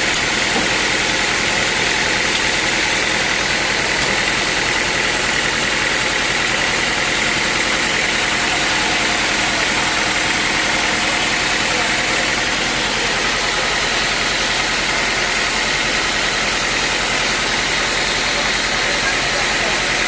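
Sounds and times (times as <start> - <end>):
high mechanical whine: 0.0 - 20.0
sawmill machinery running: 0.0 - 20.0.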